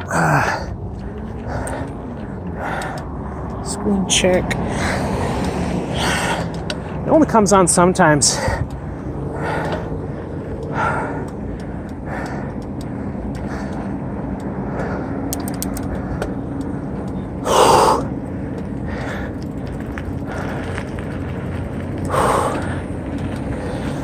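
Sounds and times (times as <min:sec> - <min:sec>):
cyclist breathing hard: 0:00.0 - 0:03.6, 0:04.6 - 0:07.1, 0:08.2 - 0:24.0
wind and riding noise: 0:00.0 - 0:24.0.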